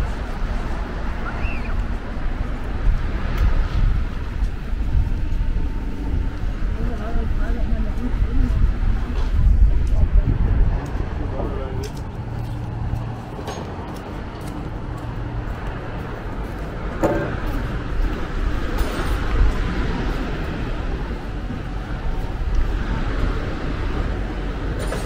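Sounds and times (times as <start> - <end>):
low traffic rumble: 0.0 - 25.0.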